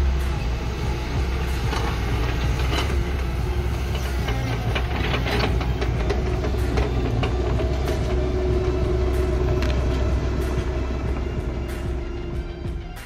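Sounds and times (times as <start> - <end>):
heavy machine engine running: 0.0 - 13.0
metallic knocks and rattles: 1.1 - 13.0.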